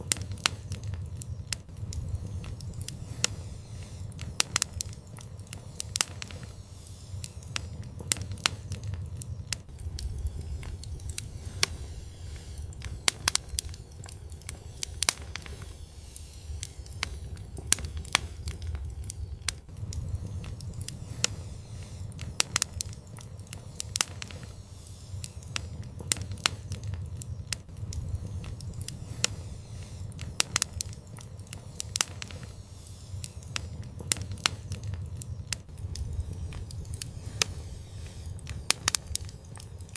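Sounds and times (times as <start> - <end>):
low rumble of flame: 0.0 - 39.9
wood fire popping and crackling: 0.0 - 39.9.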